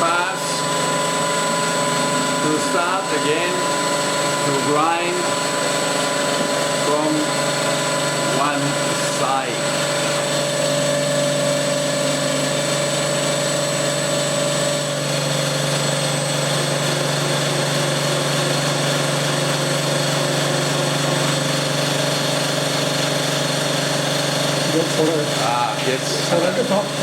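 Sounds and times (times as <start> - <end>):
grinding machine hum and whine: 0.0 - 27.0.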